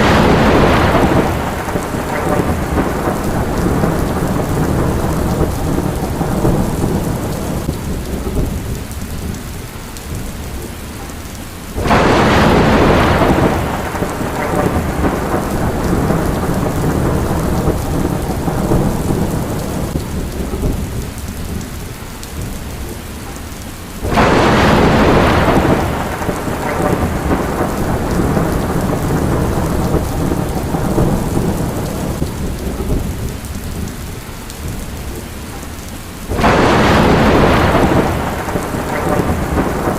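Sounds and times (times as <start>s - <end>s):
thunder claps rumbling: 0.0s - 23.0s, 24.0s - 35.6s, 36.2s - 39.9s
steady rain: 0.0s - 39.9s.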